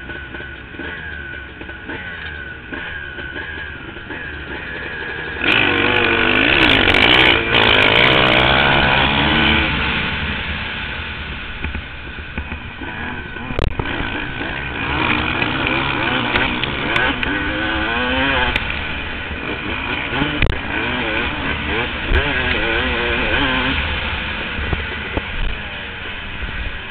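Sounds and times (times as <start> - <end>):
motocross bikes accelerating: 0.0 - 26.9
motocross bikes revving: 0.0 - 26.9.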